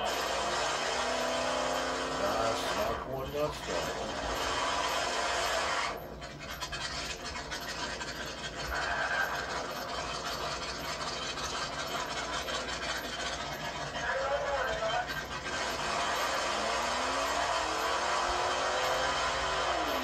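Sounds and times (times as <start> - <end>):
car engine rough rattling: 0.0 - 20.0
car tyres spinning: 0.0 - 20.0.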